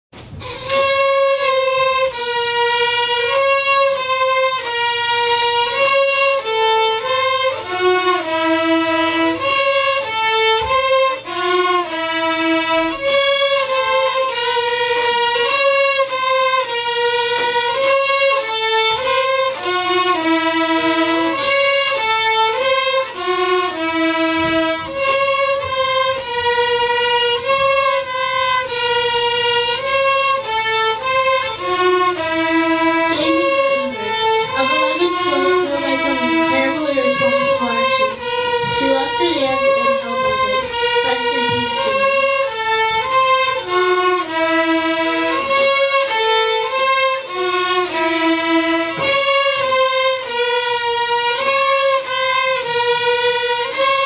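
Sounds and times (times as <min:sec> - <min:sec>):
violins playing slow melody: 0:00.2 - 0:54.0.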